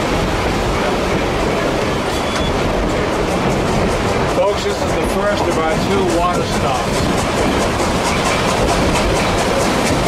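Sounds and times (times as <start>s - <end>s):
steam train running on track: 0.0s - 10.0s.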